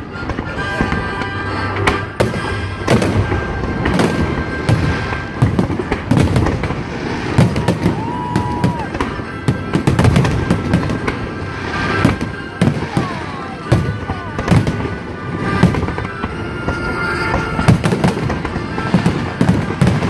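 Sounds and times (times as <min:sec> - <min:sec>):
continuous rumble: 0:00.0 - 0:20.0
fireworks bangs: 0:00.0 - 0:20.0
music playing: 0:00.0 - 0:20.0.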